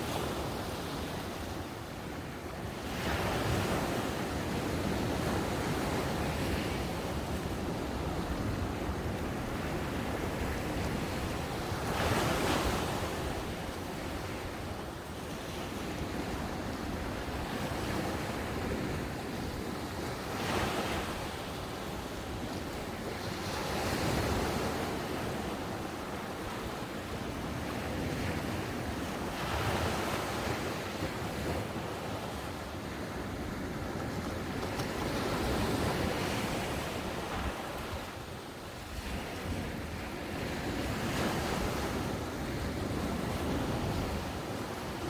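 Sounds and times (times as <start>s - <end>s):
ocean waves breaking on beach: 0.0s - 45.0s.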